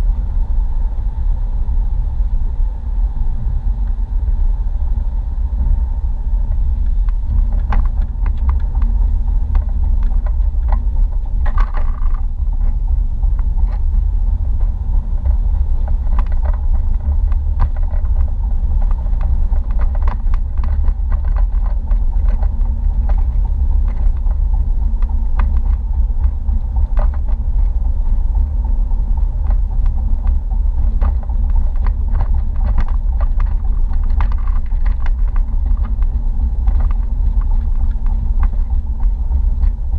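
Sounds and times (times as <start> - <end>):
car interior road rumble: 0.0 - 39.9.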